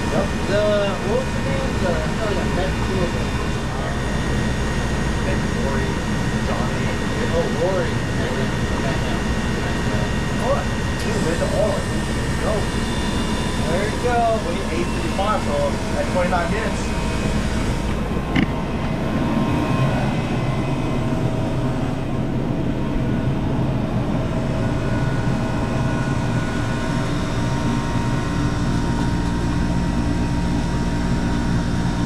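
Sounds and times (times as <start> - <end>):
ice machine humming: 0.0 - 32.0.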